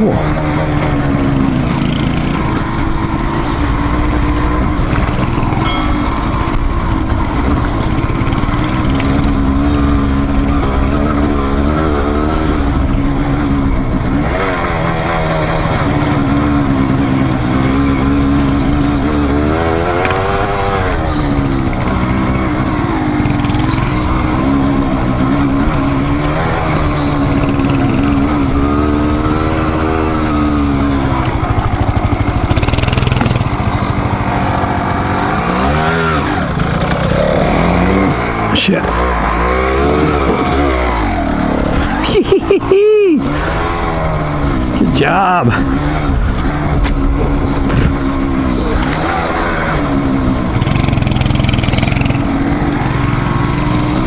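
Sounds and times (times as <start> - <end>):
motorcycle engine revving: 8.0 - 42.6, 43.2 - 44.9, 45.5 - 54.0.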